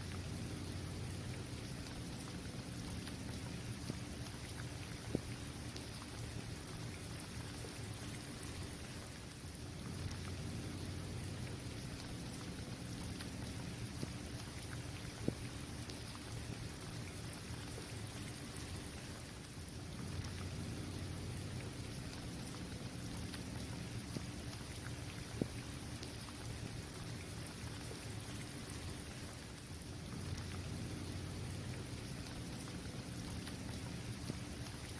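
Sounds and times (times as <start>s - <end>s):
rain on hard surface: 0.0s - 34.9s.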